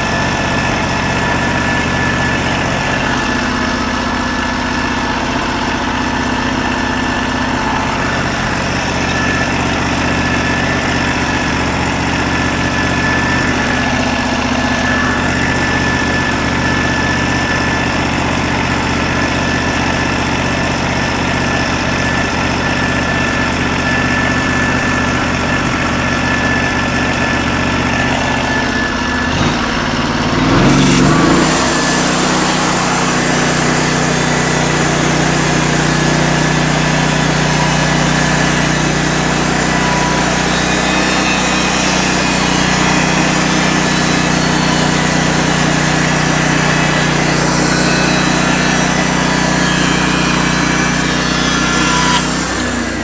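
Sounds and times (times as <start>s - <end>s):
small gasoline engine running: 0.0s - 53.0s.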